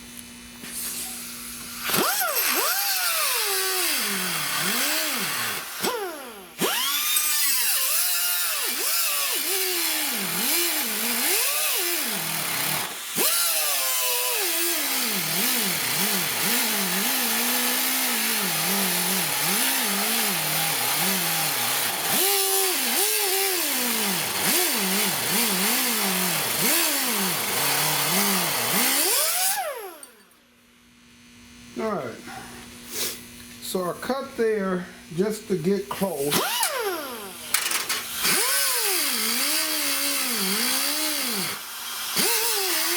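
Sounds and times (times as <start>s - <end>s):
power cutting tool slicing metal: 0.7s - 30.3s, 35.2s - 42.9s.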